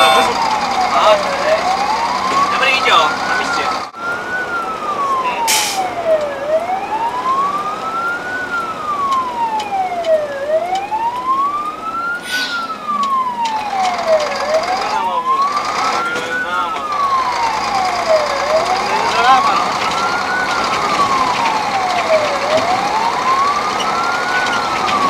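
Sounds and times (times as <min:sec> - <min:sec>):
fire engine siren wailing: 0:00.0 - 0:25.0
truck engine and road noise: 0:00.0 - 0:25.0.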